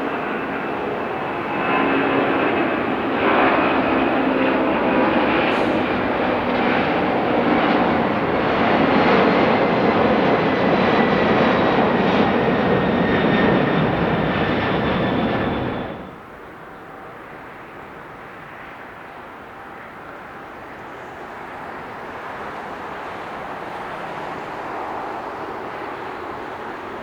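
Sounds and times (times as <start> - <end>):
faint high engine whine: 0.0 - 27.0
jet engines rumbling: 0.0 - 27.0.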